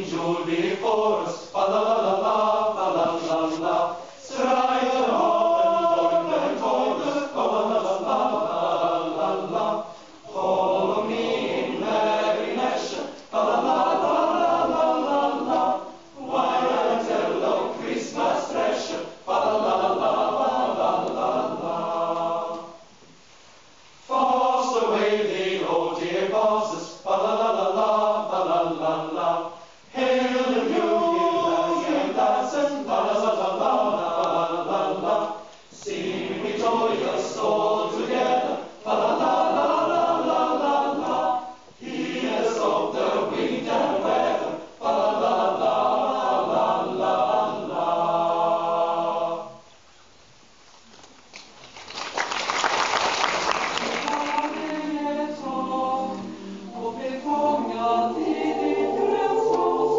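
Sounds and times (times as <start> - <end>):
choir singing a carol: 0.0 - 22.9, 24.0 - 49.8, 53.7 - 59.9.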